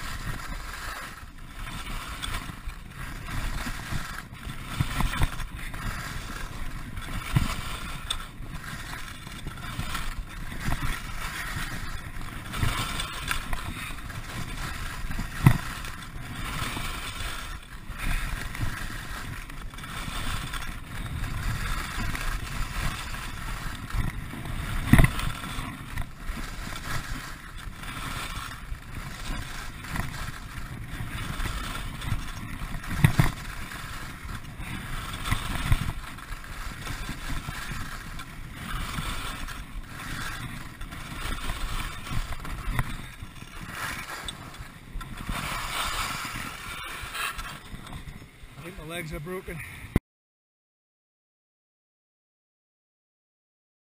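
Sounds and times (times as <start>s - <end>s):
skis knocking on bumps: 0.0s - 49.6s
skis scraping over icy snow: 0.0s - 50.0s.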